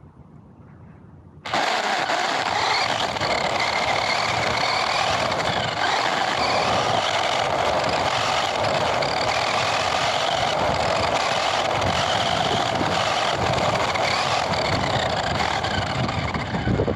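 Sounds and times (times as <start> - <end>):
rumbling running noise: 1.4 - 16.9
radio-controlled car motor whine: 1.5 - 16.9.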